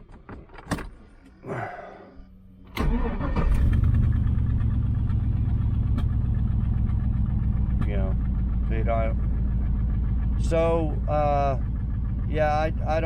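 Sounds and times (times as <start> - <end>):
engine cranking and idling: 0.0 - 13.0.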